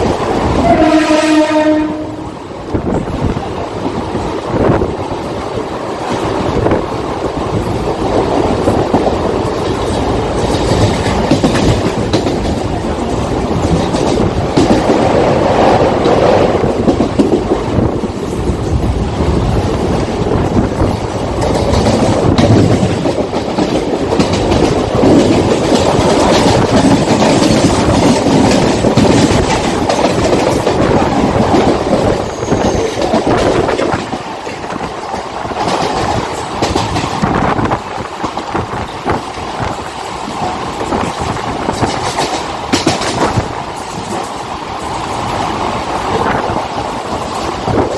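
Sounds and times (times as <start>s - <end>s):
electric train rumbling: 0.0s - 47.9s
wheels clattering over rail joints: 2.8s - 47.9s.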